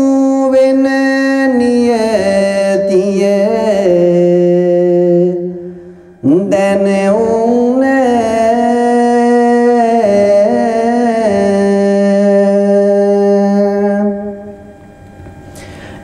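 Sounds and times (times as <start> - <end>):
man singing a long note: 0.0 - 14.8.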